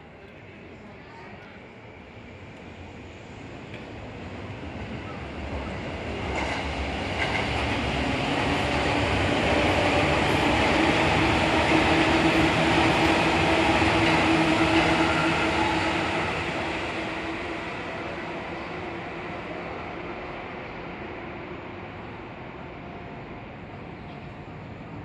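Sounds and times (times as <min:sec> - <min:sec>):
train wheel noise on rails: 0:00.0 - 0:25.0.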